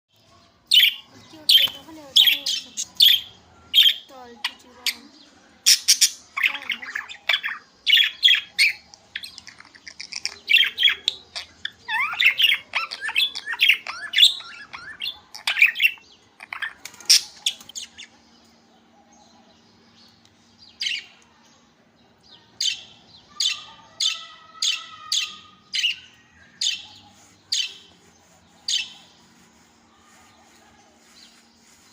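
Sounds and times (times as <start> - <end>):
budgies chattering and squawking: 0.2 - 21.3, 22.0 - 31.9.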